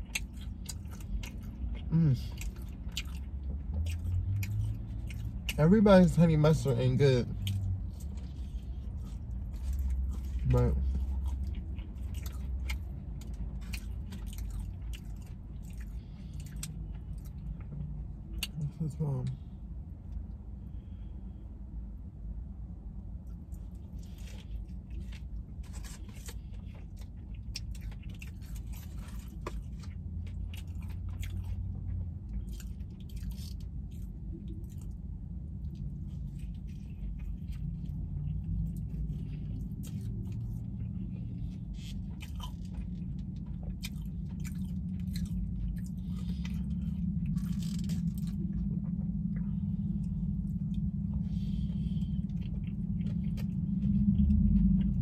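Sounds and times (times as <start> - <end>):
crunchy chewing: 0.0 - 19.4, 23.1 - 55.0
steady low hum: 0.0 - 55.0.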